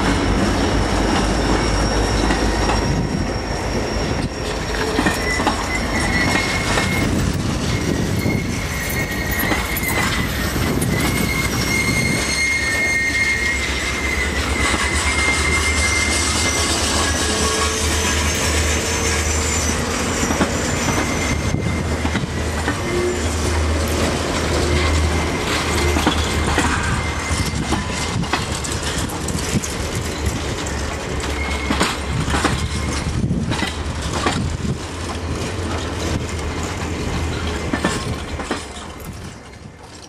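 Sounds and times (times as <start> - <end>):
train wheels clacking over rail joints: 0.0 - 40.0
wheel squeals: 1.1 - 40.0.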